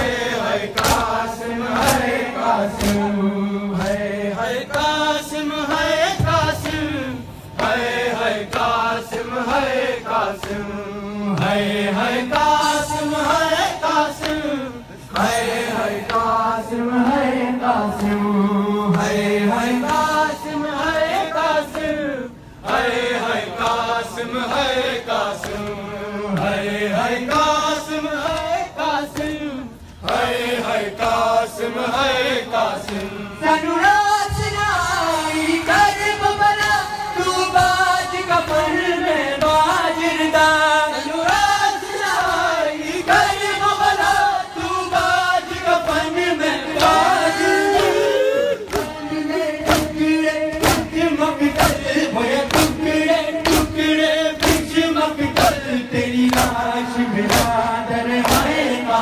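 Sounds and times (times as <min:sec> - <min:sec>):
men chanting in unison: 0:00.0 - 0:59.0
reciter on a microphone: 0:00.0 - 0:59.0.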